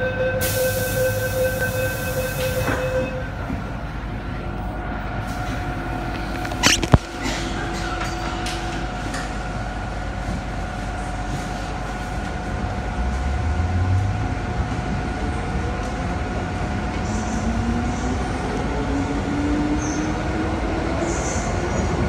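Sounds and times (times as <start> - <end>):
train rumble: 0.0 - 22.0
train running noise: 0.0 - 22.0.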